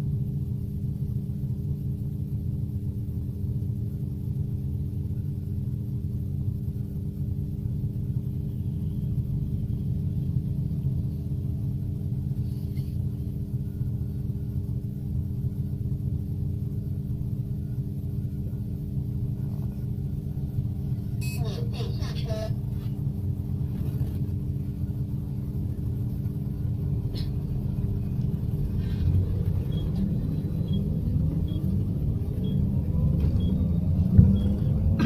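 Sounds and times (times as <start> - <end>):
bus interior low rumbling hum: 0.0 - 35.0.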